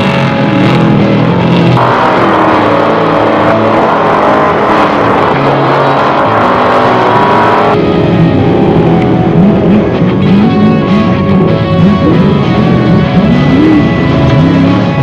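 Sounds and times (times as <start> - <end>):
truck engine racing at high revs: 0.0 - 15.0.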